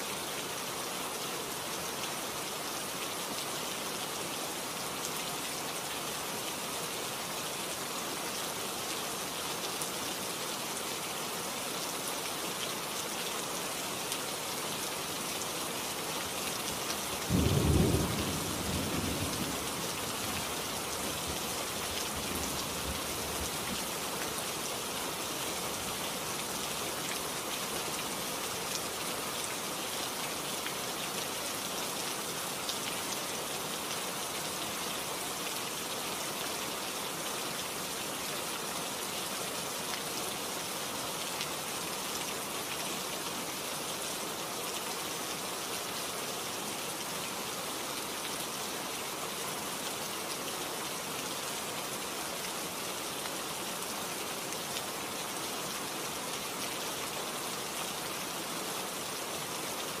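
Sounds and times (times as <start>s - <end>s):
heavy rain falling: 0.0s - 60.0s.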